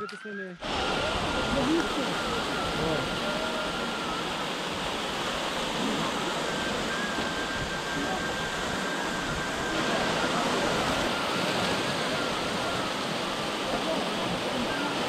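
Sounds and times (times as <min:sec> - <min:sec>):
waterfall rushing: 0:00.6 - 0:15.0.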